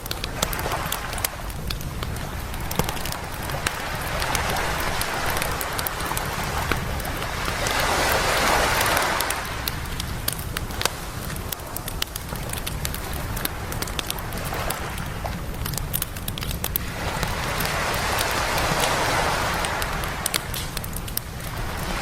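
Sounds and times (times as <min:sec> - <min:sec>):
bonfire crackling and popping: 0:00.0 - 0:22.0
waves washing on a beach: 0:00.0 - 0:22.0.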